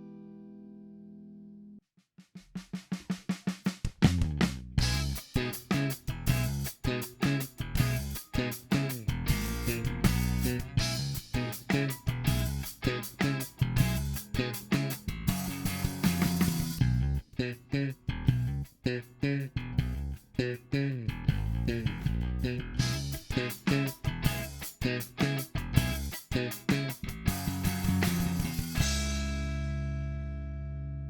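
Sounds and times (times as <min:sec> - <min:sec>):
electric bass plucked notes: 0:04.1 - 0:31.0.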